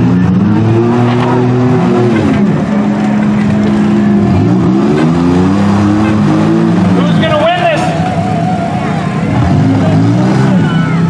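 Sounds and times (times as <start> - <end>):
engines running and revving: 0.0 - 11.0.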